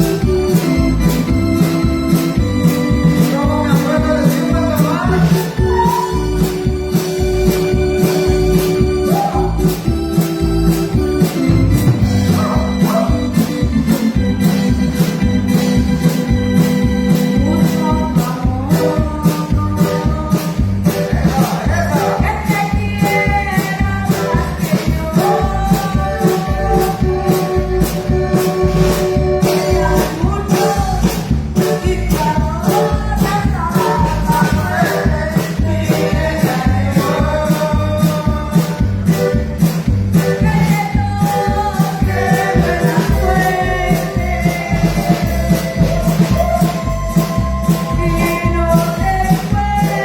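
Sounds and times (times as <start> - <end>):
shaker-like percussion: 0.0 - 18.4, 20.1 - 50.0
synthesizer melody and chords: 0.0 - 48.8
bass and drum beat: 0.0 - 50.0
electronic keyboard latin music: 0.0 - 50.0.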